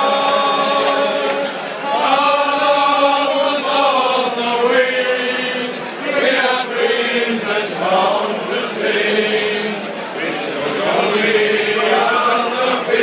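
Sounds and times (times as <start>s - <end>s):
crowd chanting in unison: 0.0s - 13.0s.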